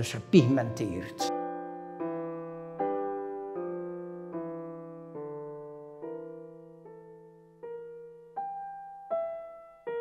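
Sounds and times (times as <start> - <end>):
slow soft piano music: 0.0 - 10.0.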